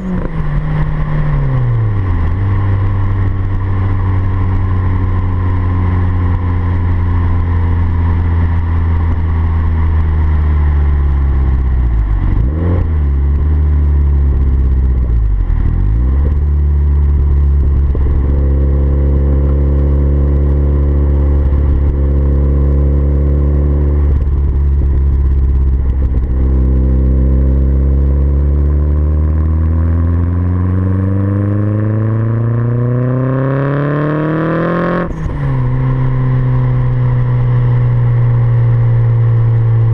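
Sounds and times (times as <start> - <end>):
turbocharged car engine running: 0.0 - 33.4.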